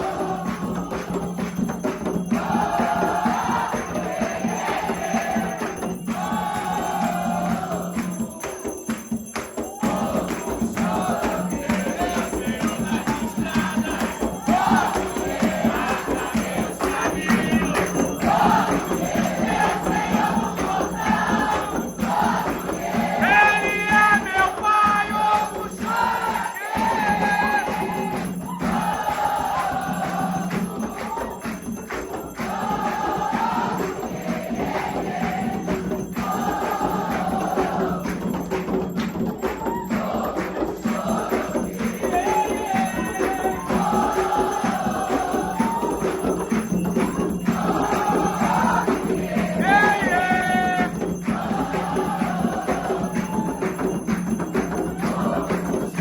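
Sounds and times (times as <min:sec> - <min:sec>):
group of voices chanting: 0:00.0 - 0:09.0, 0:09.6 - 0:54.2
percussion: 0:00.0 - 0:56.0.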